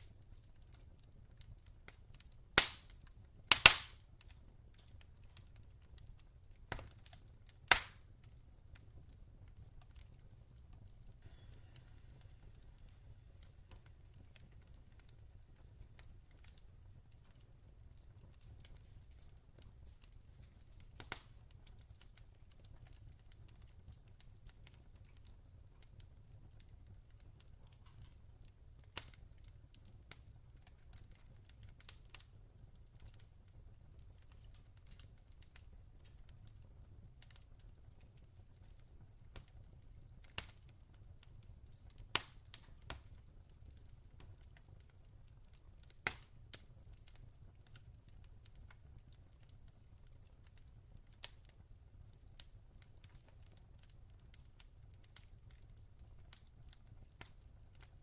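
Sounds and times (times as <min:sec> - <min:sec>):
log fire crackling and popping: 0:00.0 - 0:58.0.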